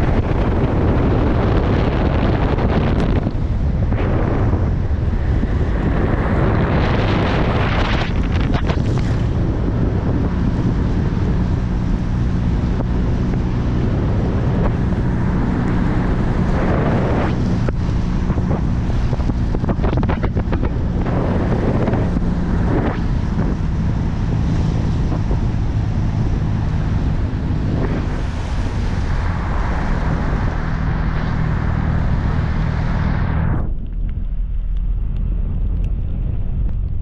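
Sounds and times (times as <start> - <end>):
car engine running: 0.0 - 37.0
wind buffeting microphone: 0.0 - 37.0.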